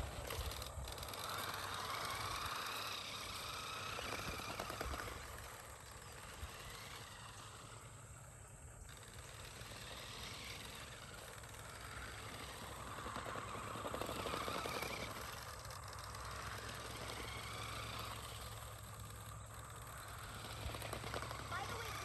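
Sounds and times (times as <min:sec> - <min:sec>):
toy truck motor running: 0:00.0 - 0:22.0.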